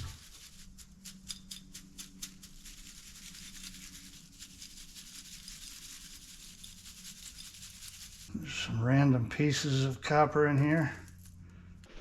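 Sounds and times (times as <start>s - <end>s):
soft rubbing and scraping: 0.0s - 10.0s
steady low hum: 0.0s - 12.0s.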